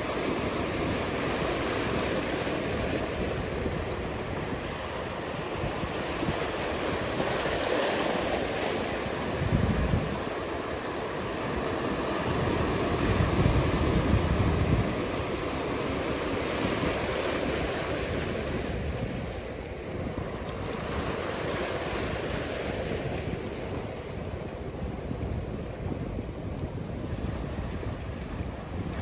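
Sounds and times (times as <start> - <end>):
waves breaking and washing: 0.0 - 29.0.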